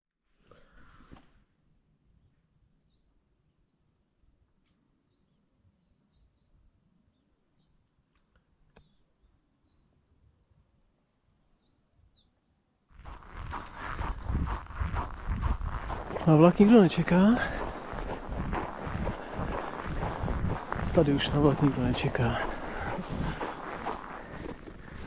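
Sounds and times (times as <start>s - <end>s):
small birds chirping: 1.8s - 25.0s.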